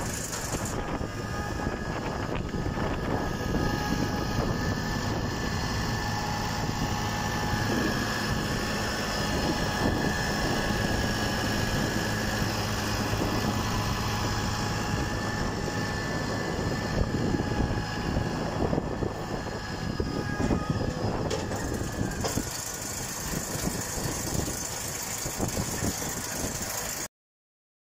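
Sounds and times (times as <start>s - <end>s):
engine hum: 0.0s - 27.1s.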